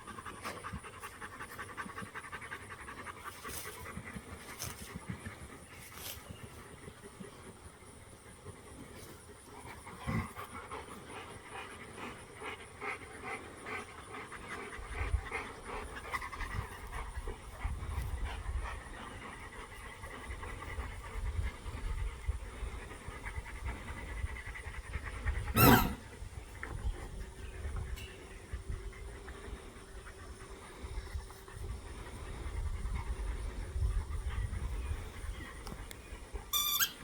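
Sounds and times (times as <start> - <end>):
puppy panting: 0.0 - 37.0.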